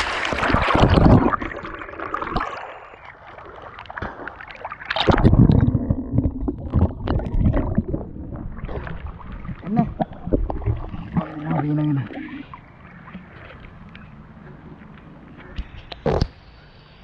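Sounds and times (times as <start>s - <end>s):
water splashing from swimming: 0.0s - 15.1s.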